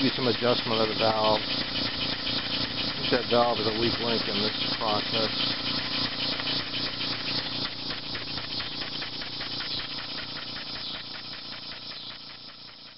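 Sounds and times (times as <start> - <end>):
air engine valve puffing: 0.0 - 12.9
cicada buzz: 0.0 - 12.9.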